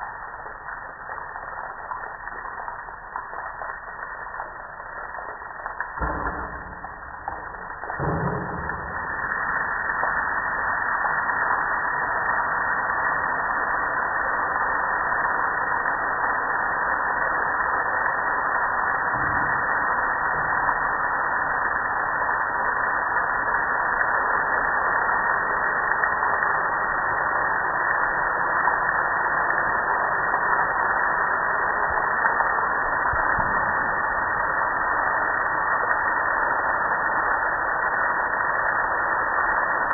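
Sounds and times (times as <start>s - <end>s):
water spraying on grill: 0.1s - 39.9s.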